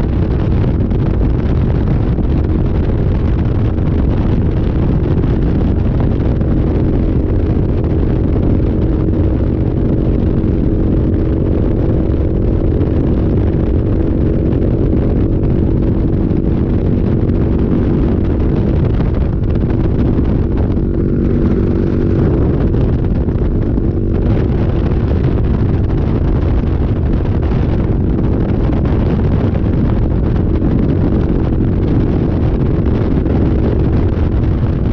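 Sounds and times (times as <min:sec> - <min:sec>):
motorcycle engine running: 0:00.0 - 0:34.9
wind on microphone: 0:00.0 - 0:34.9.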